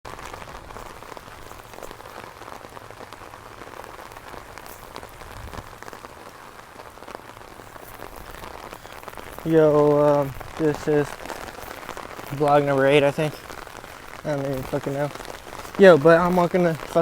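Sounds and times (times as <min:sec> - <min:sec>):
heavy rain falling: 0:00.1 - 0:17.0.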